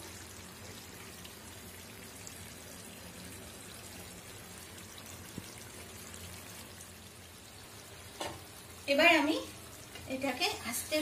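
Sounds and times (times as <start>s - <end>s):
curry simmering in a pan: 0.0s - 11.0s.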